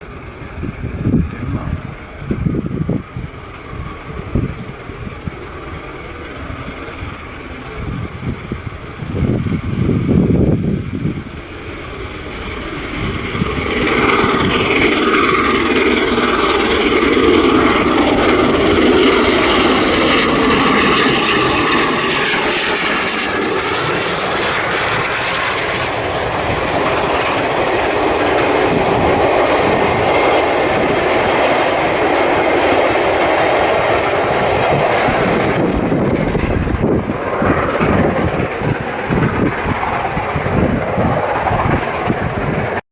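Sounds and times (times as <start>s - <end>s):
rail roar: 0.0s - 42.8s
steam locomotive passing: 0.0s - 42.8s.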